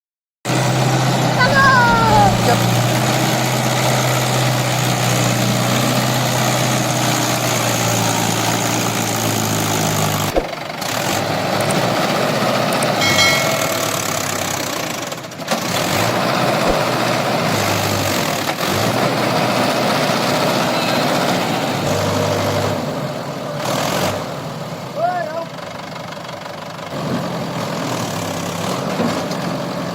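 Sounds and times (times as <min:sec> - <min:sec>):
tractor diesel engine running: 0:00.5 - 0:29.9.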